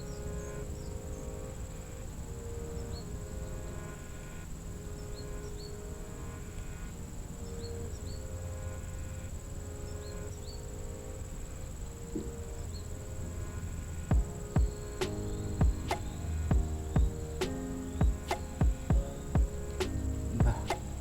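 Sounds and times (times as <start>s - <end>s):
soft background music: 0.0s - 21.0s.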